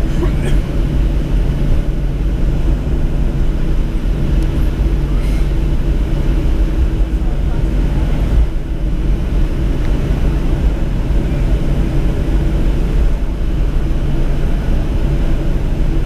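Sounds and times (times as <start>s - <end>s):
constant hum: 0.0s - 16.0s
low rumble of engines and airflow: 0.0s - 16.0s.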